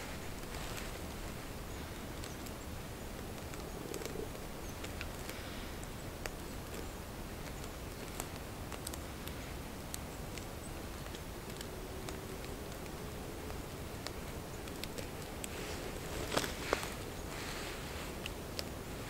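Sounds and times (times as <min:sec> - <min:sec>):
dry fibres clicking and crackling: 0:00.0 - 0:19.0
steady hiss: 0:00.0 - 0:19.0.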